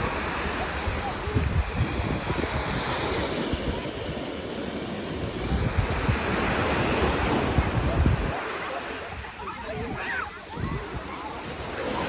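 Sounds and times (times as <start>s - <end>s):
sea surf washing in: 0.0s - 12.0s
wind on microphone: 0.0s - 12.0s.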